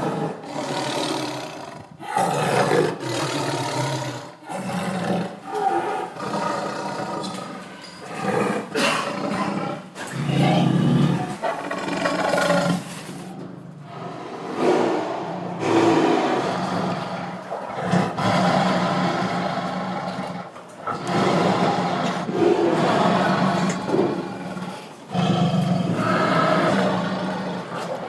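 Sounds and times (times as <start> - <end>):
big cat roaring and growling: 0.0 - 28.0.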